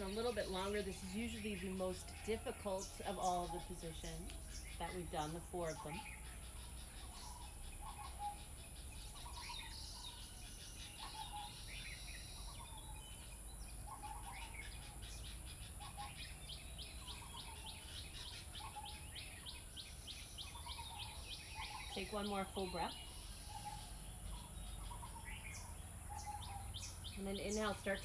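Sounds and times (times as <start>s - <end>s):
birds chirping and calling: 0.0s - 28.0s.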